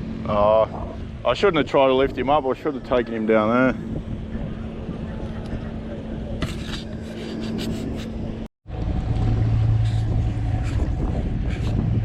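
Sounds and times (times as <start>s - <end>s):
motorboat engine hum: 0.0s - 12.0s.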